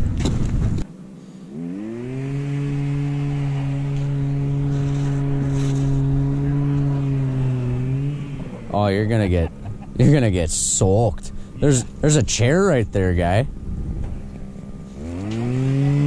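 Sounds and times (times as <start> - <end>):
motor humming: 1.4 - 12.3, 12.9 - 16.0.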